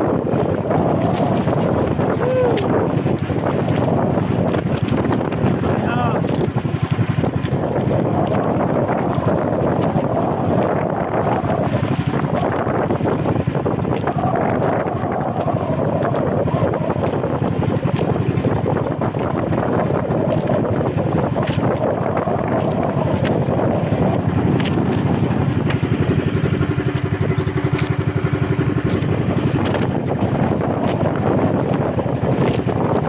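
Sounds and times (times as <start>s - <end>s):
boat engine running: 0.0s - 33.0s
wind buffeting microphone: 0.0s - 33.0s.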